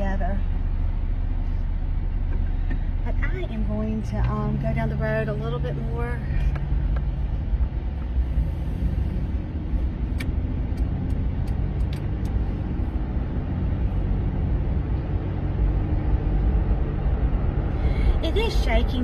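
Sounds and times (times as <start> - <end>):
road and wind noise in car: 0.0 - 19.0.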